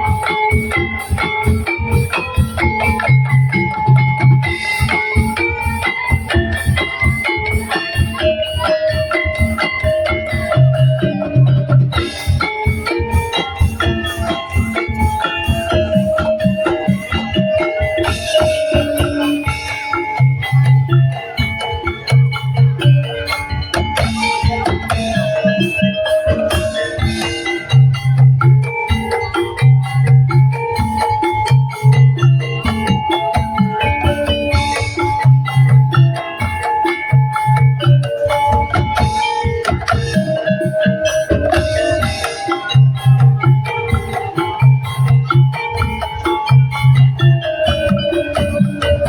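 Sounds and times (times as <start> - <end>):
percussion ensemble playing: 0.0 - 49.0.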